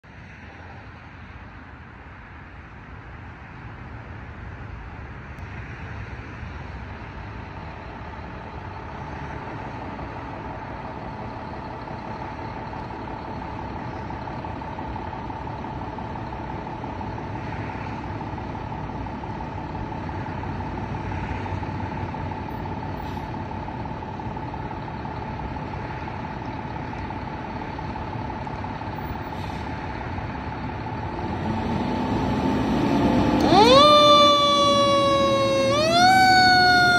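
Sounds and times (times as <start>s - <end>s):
diesel engine rumbling: 0.1s - 36.9s.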